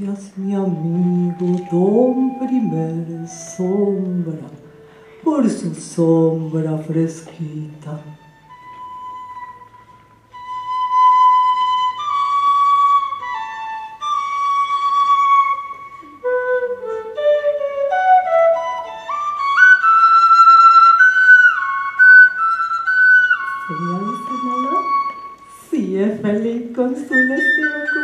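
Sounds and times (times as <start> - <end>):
solo flute melody: 0.0 - 28.0.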